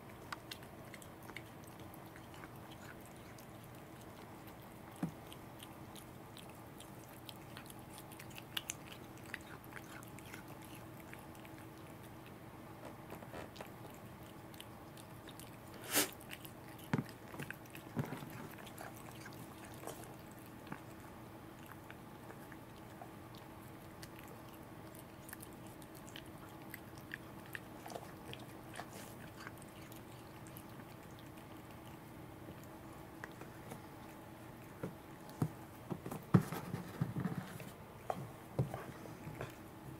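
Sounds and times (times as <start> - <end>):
cat chewing and lip-licking: 0.0 - 39.9
faint steady hum: 0.0 - 39.9.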